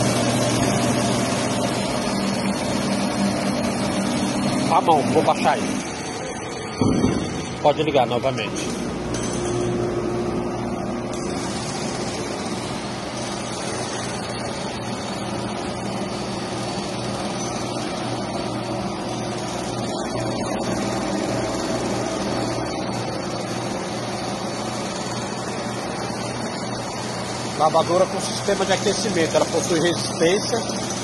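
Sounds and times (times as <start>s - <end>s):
pump and motor hum: 0.0s - 31.0s.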